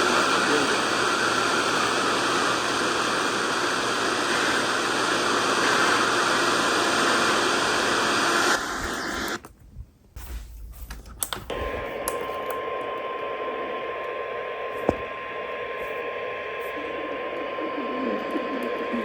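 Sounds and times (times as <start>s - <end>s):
radio static hiss: 0.0s - 9.4s, 11.5s - 19.0s.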